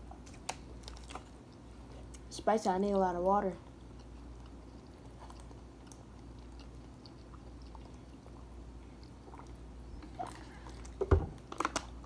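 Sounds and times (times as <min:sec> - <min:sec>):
faint chewing: 0:00.0 - 0:02.3, 0:03.6 - 0:12.0
steady low hum: 0:00.0 - 0:12.0.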